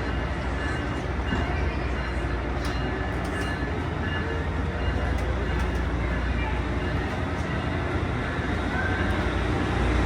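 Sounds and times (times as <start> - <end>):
train rumbling on tracks: 0.0 - 10.0.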